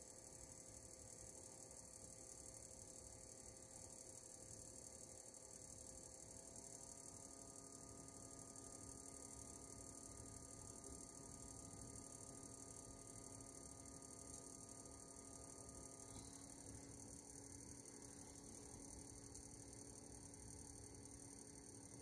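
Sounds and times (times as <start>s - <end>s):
induction cooktop hum and whine: 0.0s - 22.0s.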